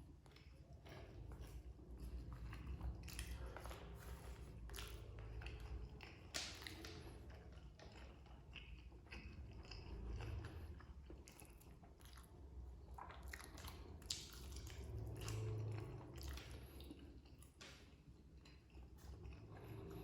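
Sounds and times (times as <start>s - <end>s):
person chewing: 0.1s - 20.0s.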